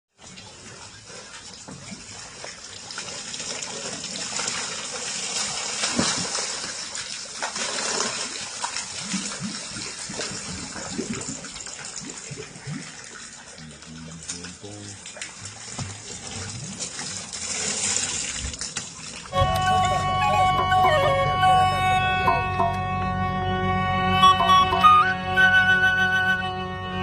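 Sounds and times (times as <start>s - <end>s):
water rushing: 0.2s - 23.0s.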